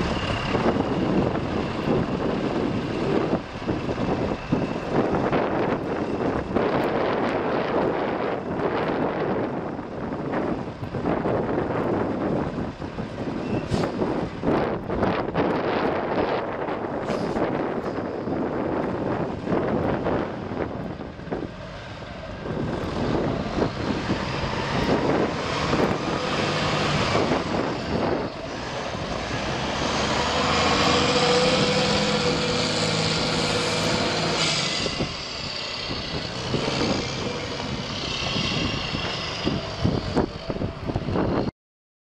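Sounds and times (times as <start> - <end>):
truck diesel engine driving by: 0.0 - 41.5.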